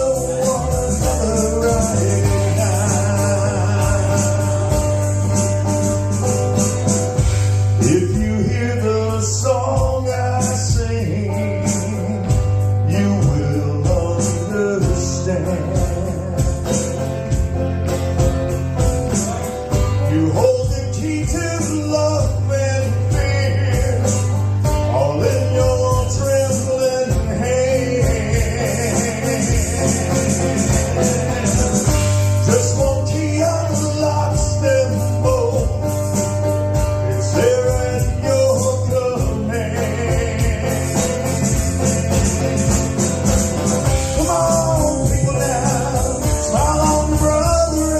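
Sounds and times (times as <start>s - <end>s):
person singing: 0.0s - 6.8s, 7.7s - 17.0s, 19.3s - 47.9s
bass guitar: 0.0s - 47.9s
drum beat with cymbals: 0.0s - 47.9s
electric guitar: 0.0s - 47.9s
live country-rock band: 0.0s - 47.9s.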